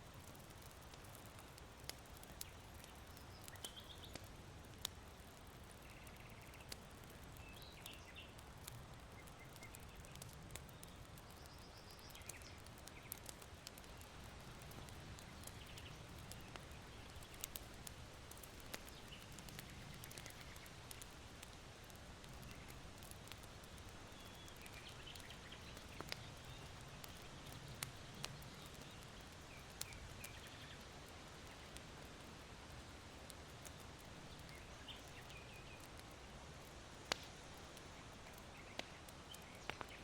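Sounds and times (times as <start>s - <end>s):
charcoal fire crackling and popping: 0.0s - 40.0s.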